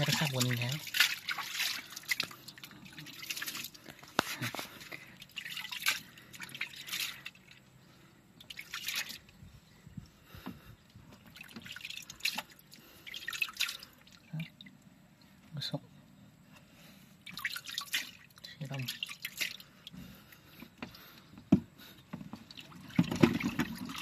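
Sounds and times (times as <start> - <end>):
water splashing and dripping in tub: 0.0 - 9.5, 11.0 - 15.4, 17.2 - 24.0.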